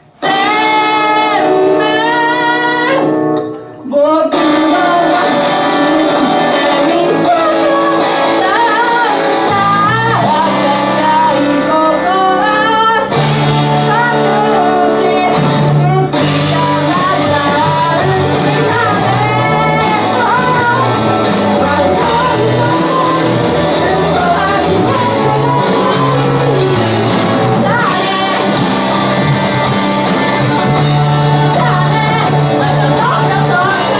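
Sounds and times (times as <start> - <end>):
electric guitar chords: 0.0 - 33.9
person singing: 0.0 - 33.9
rock band playing: 0.0 - 33.9.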